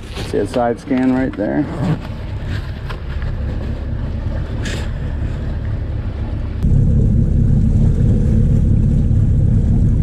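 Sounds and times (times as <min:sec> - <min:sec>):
water noise: 0:00.0 - 0:10.0
outboard engine running: 0:01.2 - 0:10.0.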